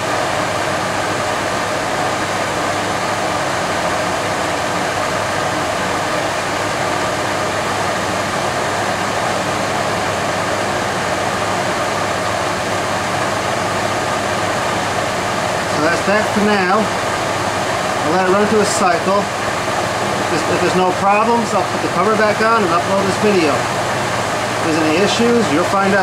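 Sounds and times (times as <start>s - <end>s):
furnace blower rushing air: 0.0s - 26.0s.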